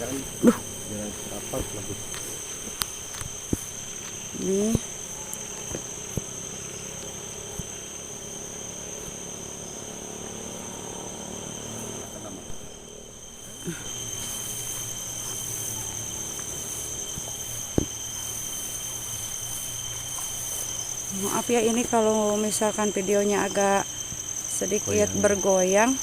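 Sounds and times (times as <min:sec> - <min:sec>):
night insects chirping: 0:00.0 - 0:26.0.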